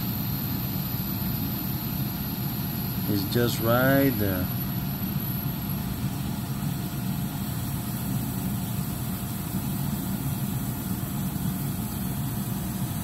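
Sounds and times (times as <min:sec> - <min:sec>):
air conditioning hum: 0:00.0 - 0:13.0.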